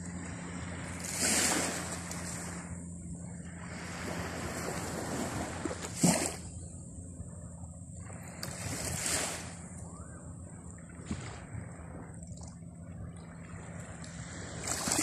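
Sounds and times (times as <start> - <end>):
waves lapping on sandy shore: 0.0 - 6.8, 8.0 - 10.1, 10.8 - 15.0.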